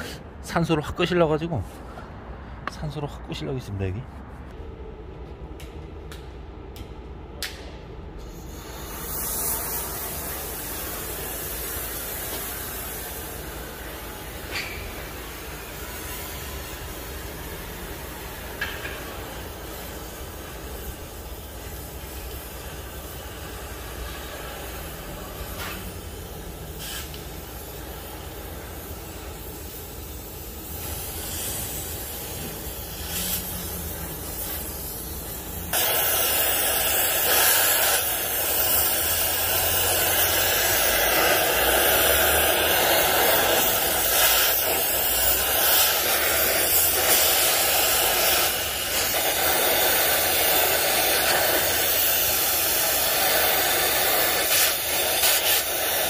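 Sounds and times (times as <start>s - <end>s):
gas torch flame hissing: 8.2s - 56.0s.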